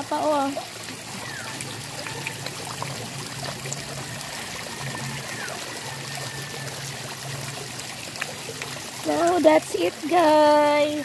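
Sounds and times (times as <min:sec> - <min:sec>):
water splashing into pond: 0:00.0 - 0:11.0.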